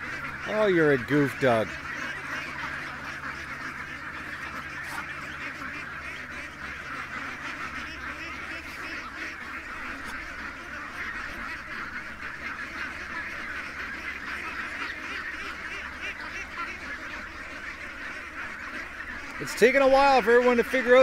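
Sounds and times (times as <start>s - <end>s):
flock of ducks quacking: 0.0s - 21.0s.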